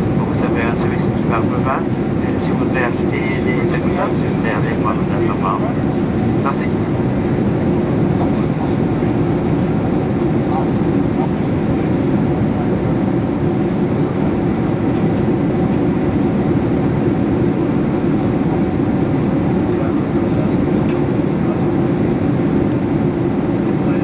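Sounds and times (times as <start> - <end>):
airplane cabin engine roar: 0.0 - 24.0.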